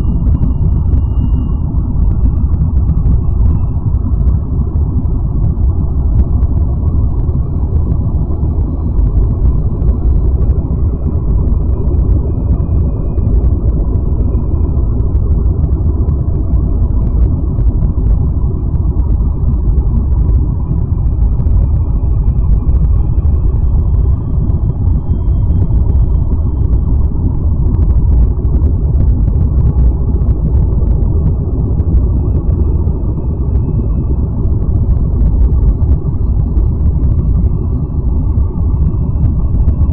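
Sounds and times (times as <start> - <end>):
deep rumbling drone: 0.0 - 39.9.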